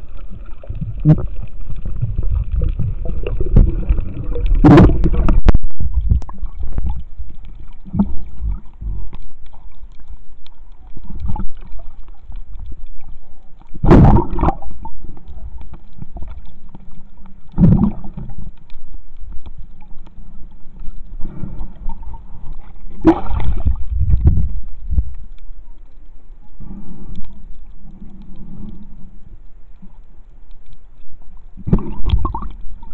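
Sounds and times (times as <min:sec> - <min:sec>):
water gurgling: 0:00.0 - 0:25.9, 0:31.2 - 0:32.9
muffled underwater rumble: 0:00.0 - 0:32.9.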